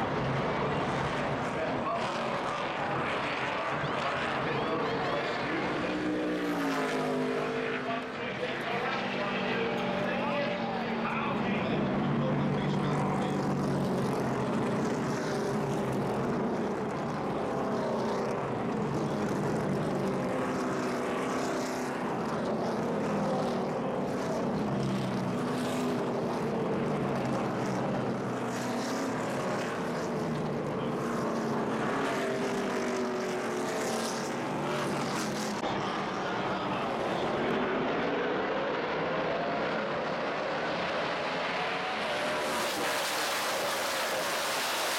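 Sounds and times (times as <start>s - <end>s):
race car engines passing: 0.0s - 44.9s.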